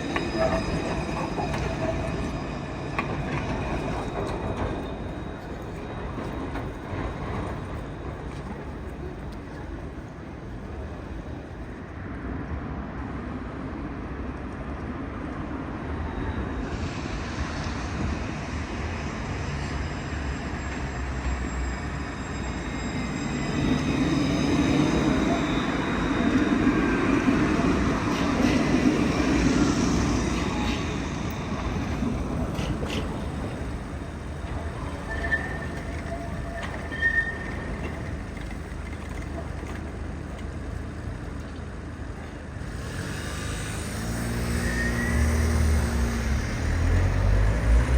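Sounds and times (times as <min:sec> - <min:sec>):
tram passing: 0:00.0 - 0:47.9.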